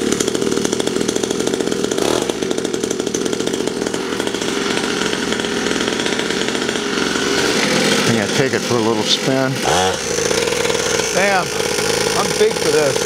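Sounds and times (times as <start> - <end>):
two-stroke engine idling: 0.0 - 13.0.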